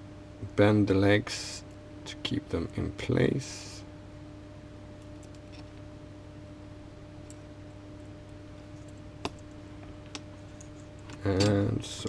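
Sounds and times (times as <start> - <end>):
fume extractor fan humming: 0.0 - 12.0.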